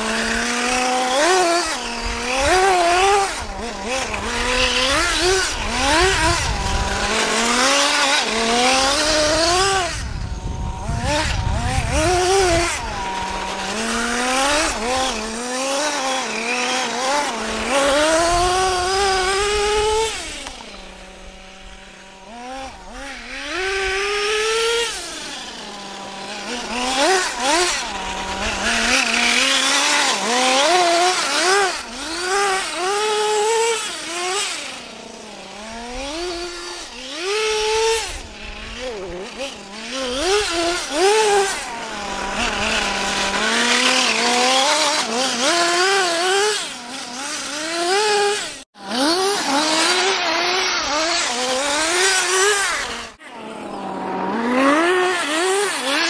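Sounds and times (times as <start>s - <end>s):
rc truck engine revving: 0.0s - 56.0s.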